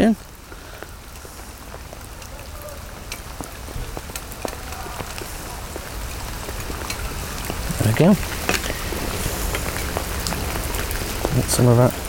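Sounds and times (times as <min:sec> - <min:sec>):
heavy rain: 0:00.0 - 0:12.0
raindrops tapping on plastic: 0:00.0 - 0:12.0.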